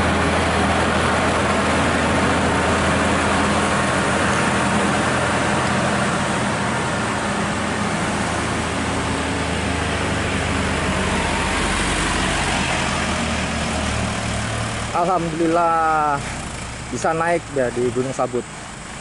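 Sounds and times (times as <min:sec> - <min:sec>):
road noise: 0:00.0 - 0:19.0
truck diesel engine droning: 0:00.0 - 0:19.0.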